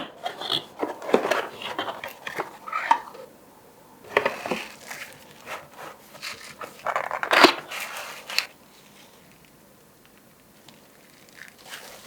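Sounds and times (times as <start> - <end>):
packaging rustling and crinkling: 0.4 - 3.3, 4.1 - 12.0.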